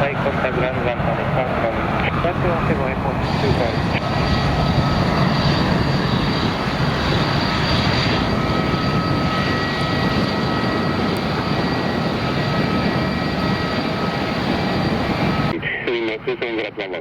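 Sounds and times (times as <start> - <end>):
airliner engines running: 0.0 - 17.0
held whining tones: 1.6 - 15.5.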